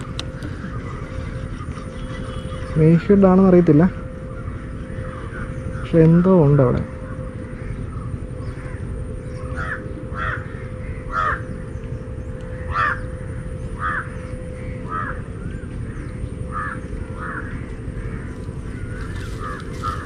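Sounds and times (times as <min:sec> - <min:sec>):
harsh bird calls: 0:00.0 - 0:20.0
steady low rumble: 0:00.0 - 0:20.0.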